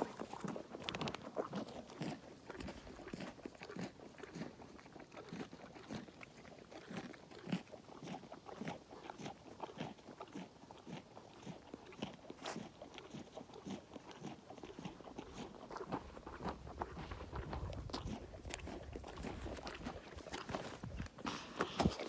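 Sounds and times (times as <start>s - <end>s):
animals crunching carrots: 0.0s - 22.0s.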